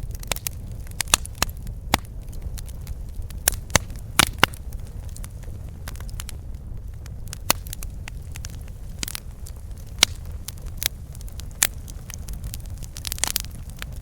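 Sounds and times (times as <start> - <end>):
campfire crackling and popping: 0.0 - 14.0
low steady fire rumble: 0.0 - 14.0.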